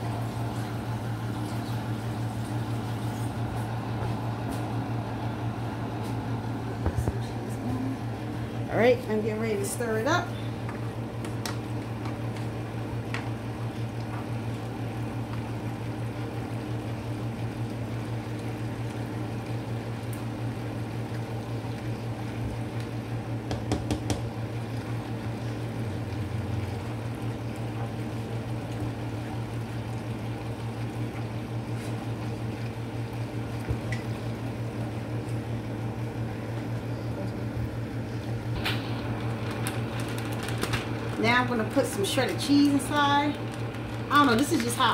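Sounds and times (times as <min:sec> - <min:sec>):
low appliance hum: 0:00.0 - 0:44.9.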